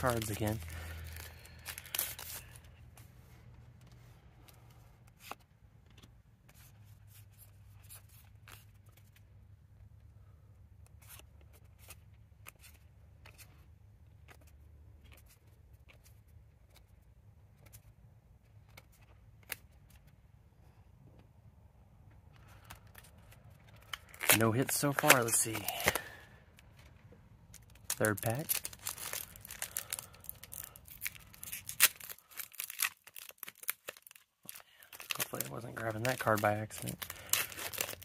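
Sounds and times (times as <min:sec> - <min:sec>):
cards being flipped: 0:00.0 - 0:09.3, 0:10.8 - 0:20.2, 0:22.2 - 0:38.0.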